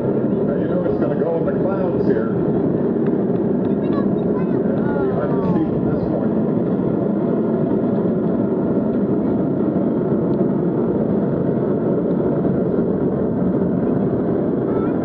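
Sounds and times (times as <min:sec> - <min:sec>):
distant rocket engines roaring: 0:00.0 - 0:15.0.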